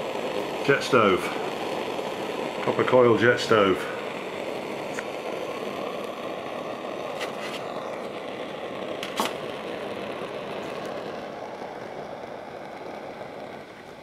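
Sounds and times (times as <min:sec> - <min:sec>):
stove jet flame roaring: 0:00.0 - 0:14.0.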